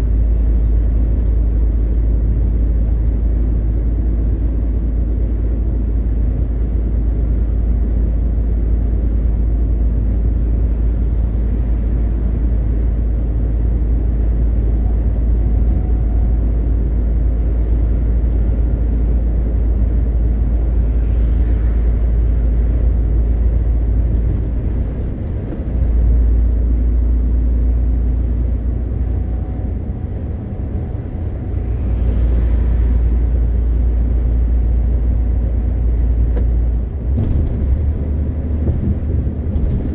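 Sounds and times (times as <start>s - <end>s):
truck diesel engine driving: 0.0s - 39.9s
tyres on road: 0.0s - 39.9s.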